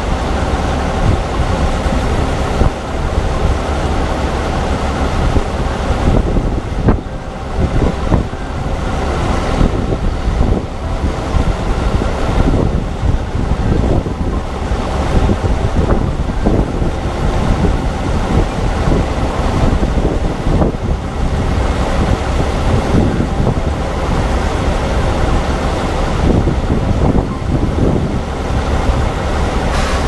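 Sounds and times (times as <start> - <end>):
farm machinery engine running: 0.0 - 30.0
wind buffeting microphone: 0.0 - 30.0.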